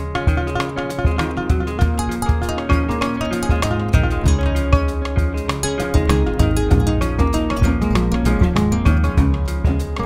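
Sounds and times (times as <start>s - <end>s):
music with drum beat: 0.0s - 10.0s.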